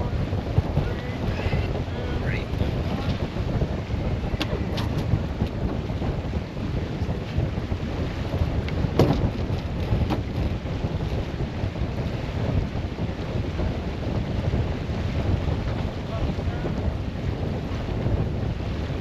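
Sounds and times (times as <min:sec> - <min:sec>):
rumble of wind and water: 0:00.0 - 0:19.0
wind buffeting microphone: 0:00.0 - 0:19.0.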